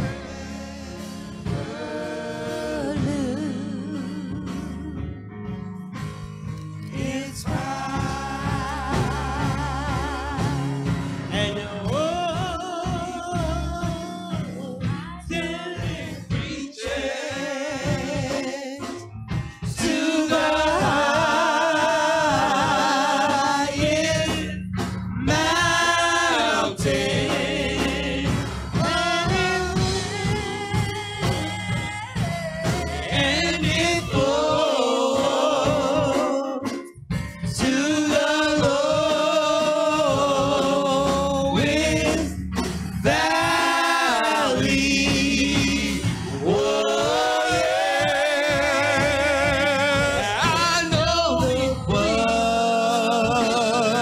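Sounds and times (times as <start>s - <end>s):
gospel singing: 0.0s - 5.2s, 6.5s - 54.0s.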